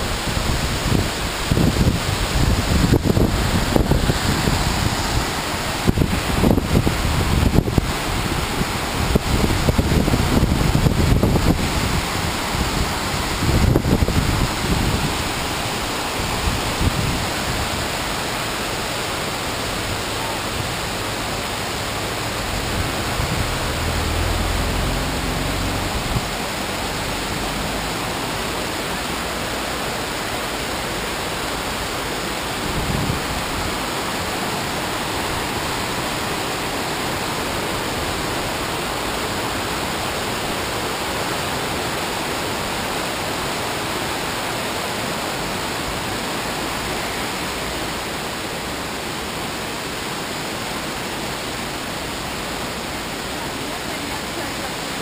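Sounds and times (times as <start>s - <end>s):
waterfall pouring into river: 0.0s - 55.0s.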